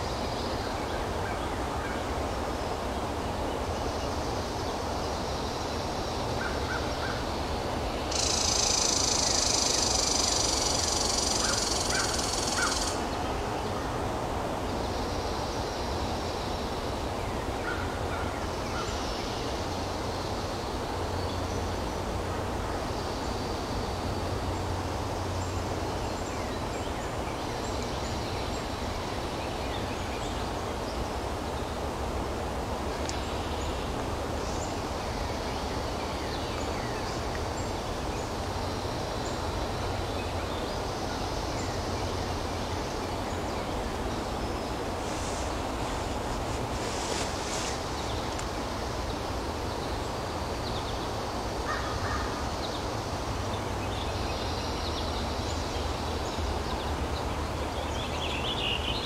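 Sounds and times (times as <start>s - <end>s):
steady rushing background noise: 0.0s - 59.0s.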